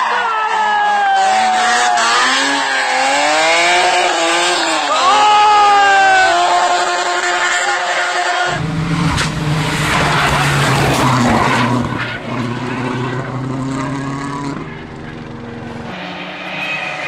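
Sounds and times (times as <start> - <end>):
rally car engine revving: 0.0 - 17.0
tyre and road noise: 0.0 - 17.0.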